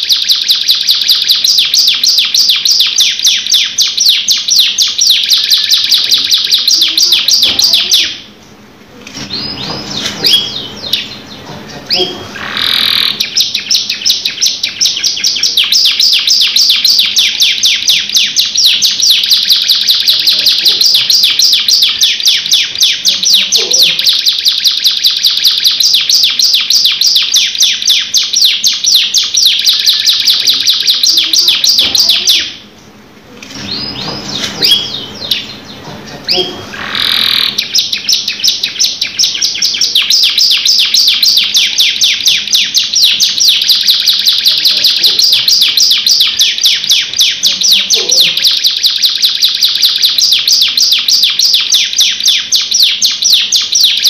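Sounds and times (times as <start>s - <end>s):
canary trilling: 0.0s - 8.4s, 9.0s - 54.0s.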